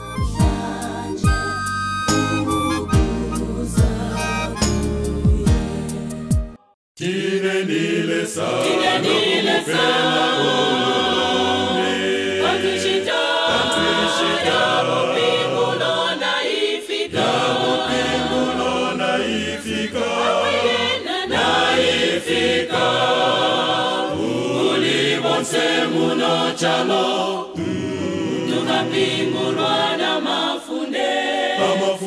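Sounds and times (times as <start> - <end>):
choir singing a hymn: 0.3 - 6.0, 7.0 - 32.0.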